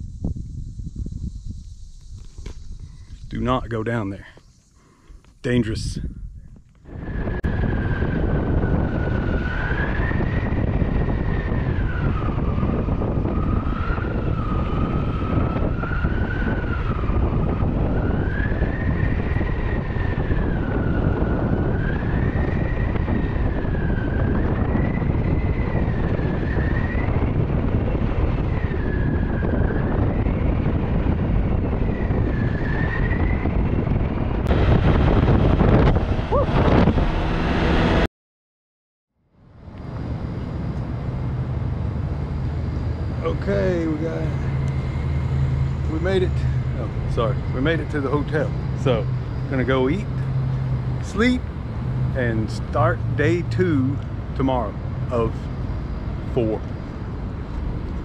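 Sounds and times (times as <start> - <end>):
thin wavering whine: 0.0 - 38.0, 39.3 - 58.0
wind rush: 0.0 - 38.1, 39.4 - 58.0.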